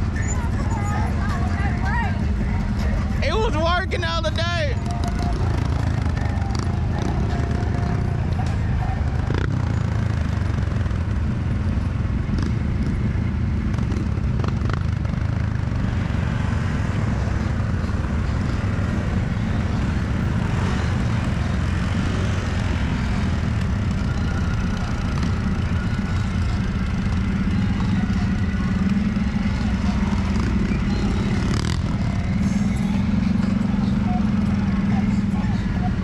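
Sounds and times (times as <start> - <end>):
quad bike engine running: 0.0 - 36.0.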